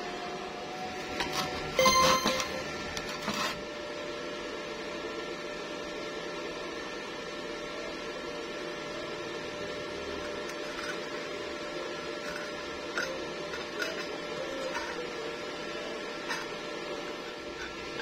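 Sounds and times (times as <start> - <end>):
steady hum with faint whine: 0.0 - 18.0.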